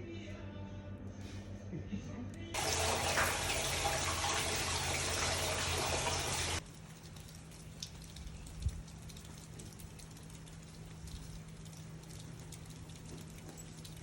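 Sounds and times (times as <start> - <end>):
quiet water patter and drips: 2.6 - 14.0
running splashing water: 2.6 - 14.0.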